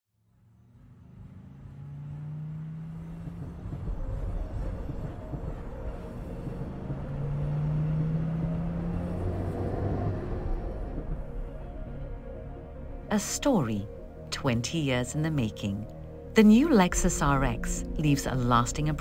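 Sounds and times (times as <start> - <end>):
car driving on road: 0.1 - 19.0.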